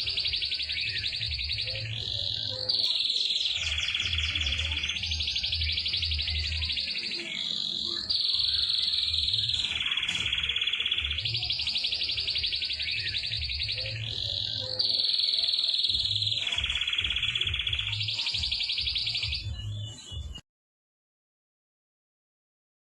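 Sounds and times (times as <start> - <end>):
canary singing fast trills: 0.0 - 20.4.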